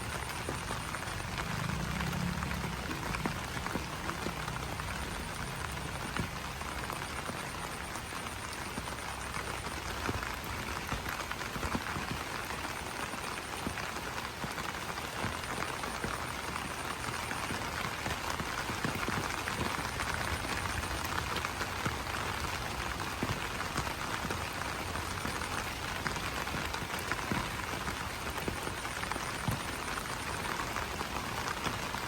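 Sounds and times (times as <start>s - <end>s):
rain pattering on leaves: 0.0s - 32.0s.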